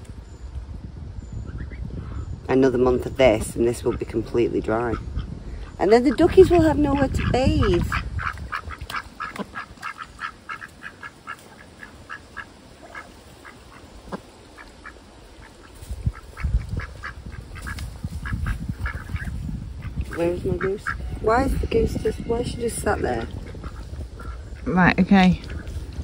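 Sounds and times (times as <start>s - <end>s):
ducks quacking: 3.6s - 26.0s.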